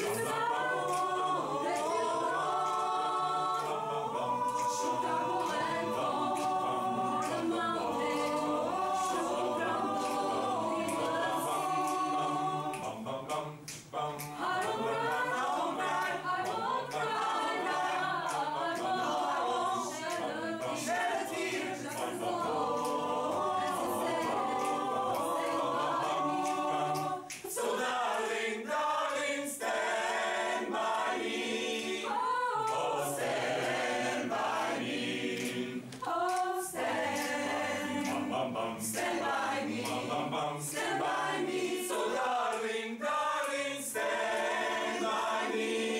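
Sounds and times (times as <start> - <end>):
mixed choir singing a cappella: 0.0 - 45.9.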